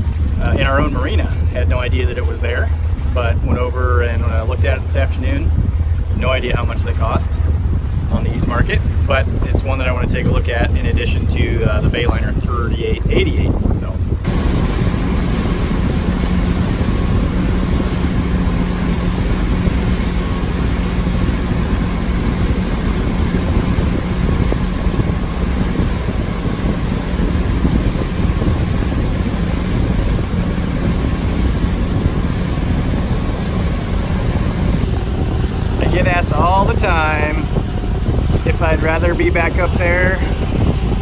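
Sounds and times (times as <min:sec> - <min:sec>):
boat engine droning: 0:00.0 - 0:41.0
water noise from hull: 0:00.0 - 0:41.0
wind rushing over microphone: 0:00.0 - 0:41.0.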